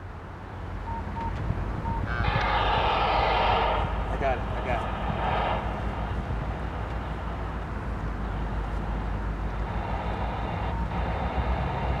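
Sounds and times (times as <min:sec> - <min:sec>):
distant diesel locomotive engine: 0:00.0 - 0:12.0.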